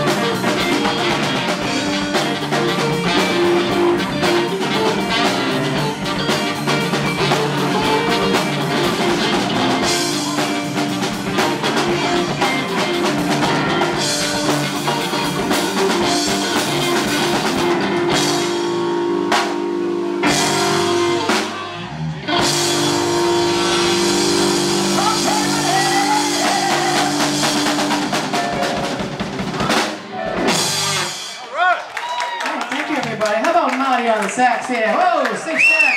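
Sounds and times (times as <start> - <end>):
electric guitar: 0.0 - 31.4
keyboard playing: 0.0 - 31.5
drum kit: 0.0 - 31.6.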